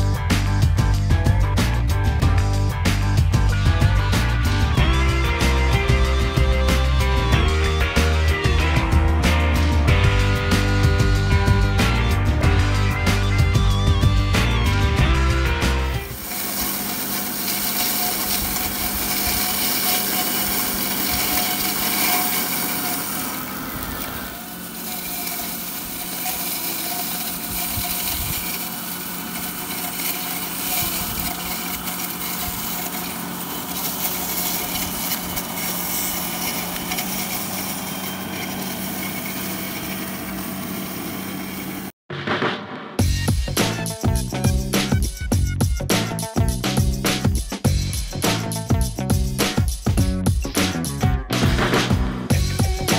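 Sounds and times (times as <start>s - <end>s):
model tractor mower whirring: 0.0s - 42.0s, 52.3s - 52.9s.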